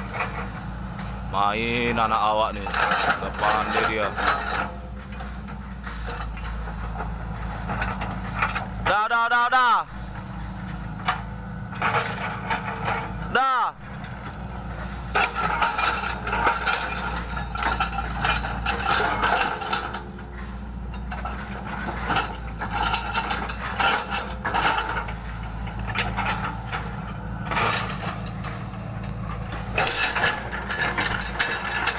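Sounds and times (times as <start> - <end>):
metallic clanking and rattling: 0.0 - 9.0, 9.9 - 31.9
excavator engine hum: 0.0 - 31.9.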